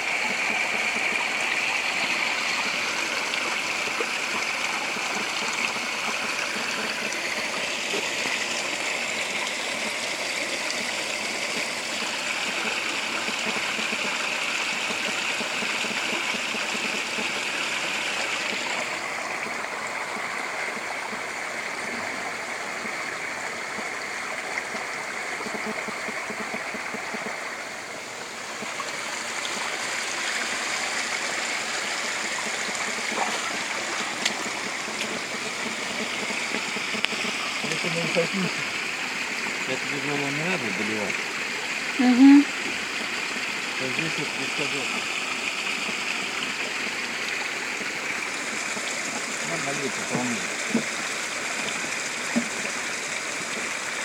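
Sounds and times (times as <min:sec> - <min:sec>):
spring water pouring and splashing: 0:00.0 - 0:54.0.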